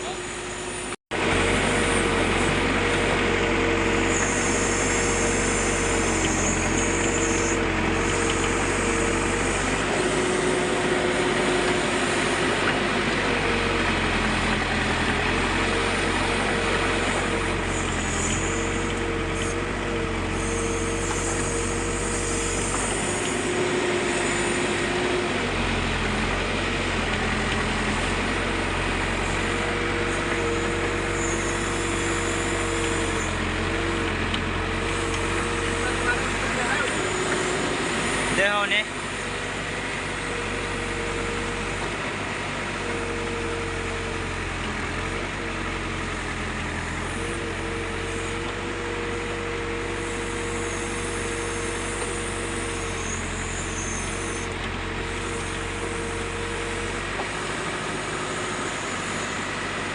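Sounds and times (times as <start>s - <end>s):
backhoe diesel engine running: 0.0s - 59.9s
hydraulic whine: 0.0s - 59.9s.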